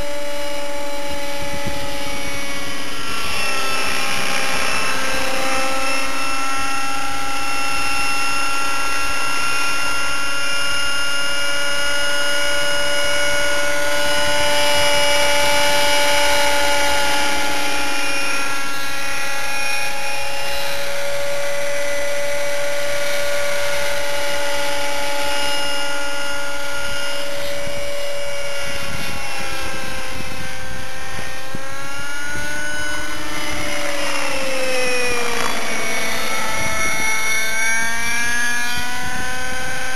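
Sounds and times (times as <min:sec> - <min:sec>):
rc helicopter engine and rotors: 0:00.0 - 0:39.9.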